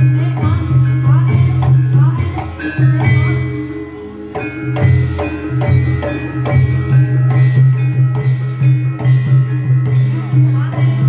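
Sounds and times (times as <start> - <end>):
drum strokes: 0.0 - 11.0
ringing gongs and metallophones: 0.0 - 11.0.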